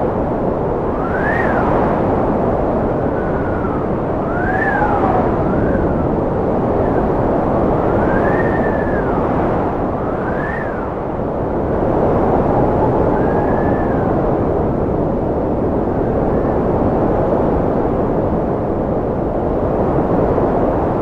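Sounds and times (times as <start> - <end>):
strong wind howling: 0.0 - 21.0.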